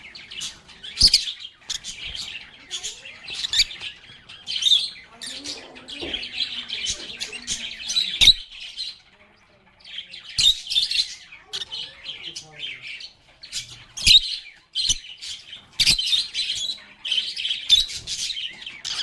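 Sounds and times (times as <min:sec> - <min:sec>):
lovebirds chirping and squawking: 0:00.0 - 0:19.0.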